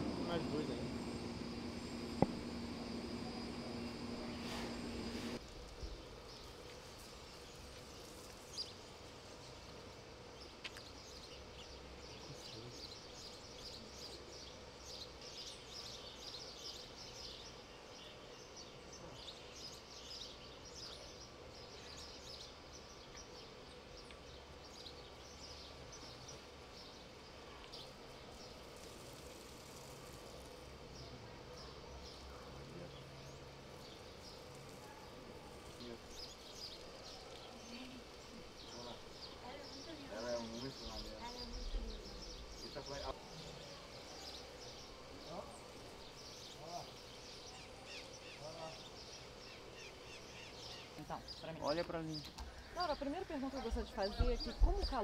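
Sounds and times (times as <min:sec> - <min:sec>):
birds chirping: 0:00.0 - 0:06.7, 0:07.3 - 0:55.0
steady low hum: 0:00.0 - 0:51.3.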